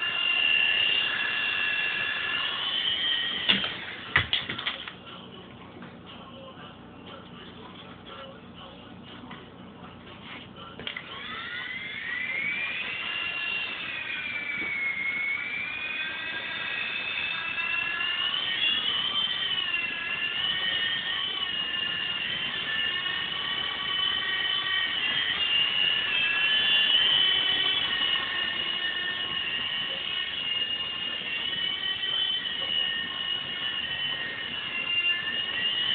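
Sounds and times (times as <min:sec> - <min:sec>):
rc helicopter rotors whining: 0:00.0 - 0:05.0, 0:10.9 - 0:35.9.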